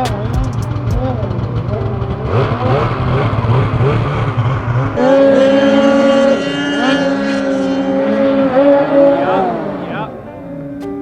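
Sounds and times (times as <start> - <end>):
snowmobile engine revving: 0.0 - 10.8.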